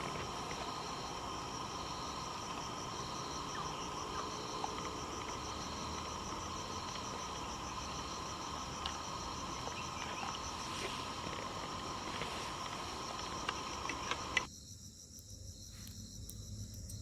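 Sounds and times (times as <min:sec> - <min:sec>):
low steady hum: 0:00.0 - 0:14.5
insects trilling: 0:00.0 - 0:17.0.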